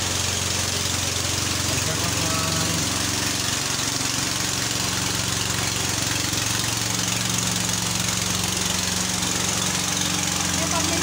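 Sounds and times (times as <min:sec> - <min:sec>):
small boat engine chugging: 0:00.0 - 0:11.0
water hissing: 0:00.0 - 0:11.0.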